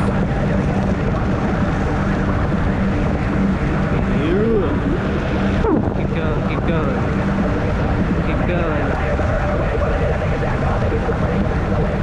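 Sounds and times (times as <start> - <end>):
wind noise on microphone: 0.0 - 12.0.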